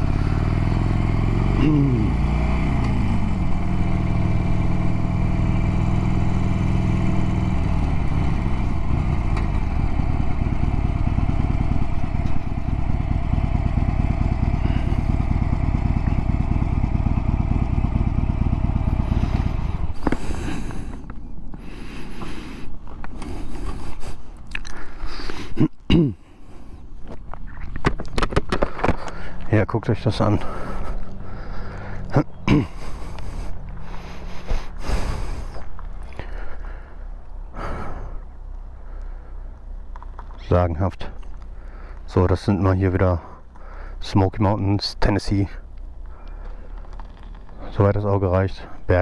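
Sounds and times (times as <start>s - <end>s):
motorcycle engine running: 0.0s - 24.2s, 28.0s - 49.0s.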